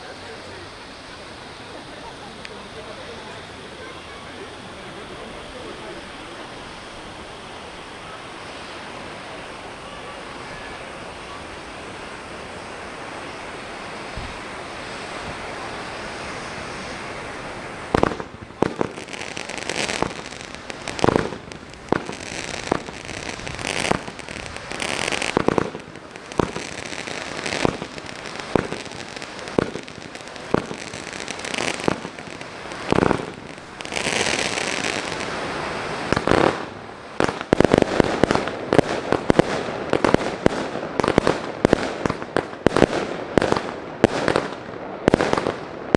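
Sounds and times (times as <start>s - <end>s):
fireworks bangs: 0.0s - 45.9s
fireworks hissing: 0.0s - 45.9s.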